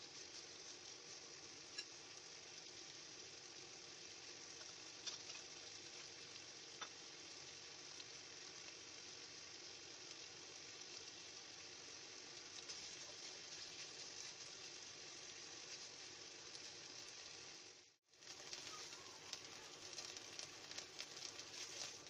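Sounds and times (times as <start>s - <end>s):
meat sizzling in a wok: 0.0s - 22.0s.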